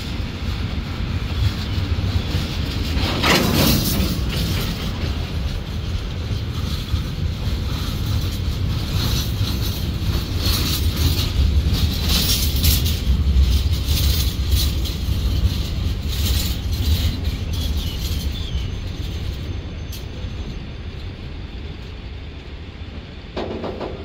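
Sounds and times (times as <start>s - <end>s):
steel wheels rumbling on rail: 0.0s - 24.0s
train clicks and rattles: 0.0s - 24.0s.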